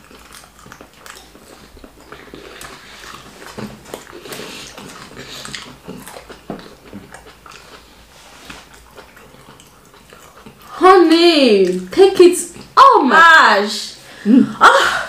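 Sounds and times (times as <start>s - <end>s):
wet chewing and lip-smacking: 0.0s - 12.8s.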